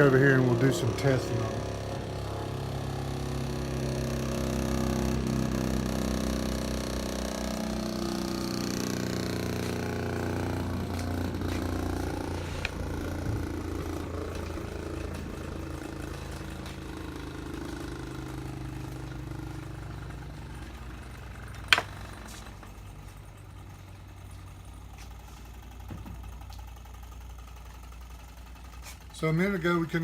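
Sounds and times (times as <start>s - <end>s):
buffing wheel motor humming: 0.0s - 29.2s.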